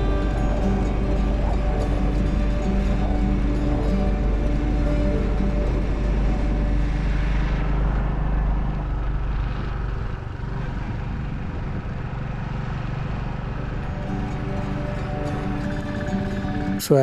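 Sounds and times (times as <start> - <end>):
wind noise on microphone: 0.0 - 16.8.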